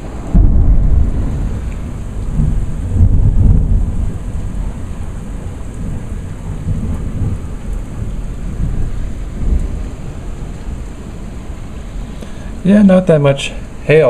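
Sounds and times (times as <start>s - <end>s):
thunder rumbling: 0.0s - 13.9s
steady rain: 0.0s - 14.0s.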